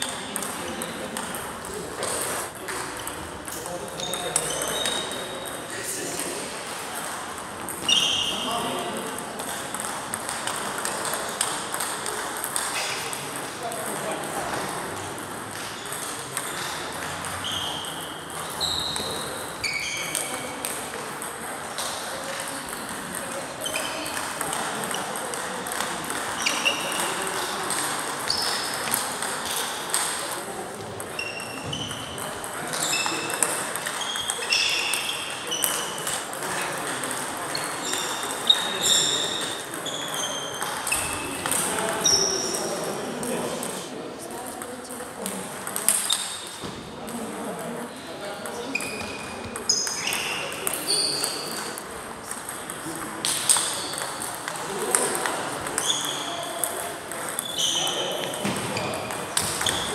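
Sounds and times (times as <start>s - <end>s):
table tennis balls pinging: 0.0s - 59.9s.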